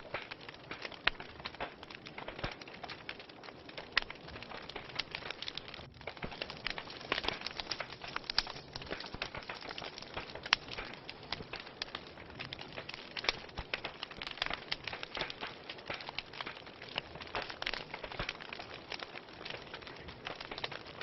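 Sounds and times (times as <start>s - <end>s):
wood fire crackling and popping: 0.0s - 21.0s
soft fire hiss: 4.0s - 21.0s.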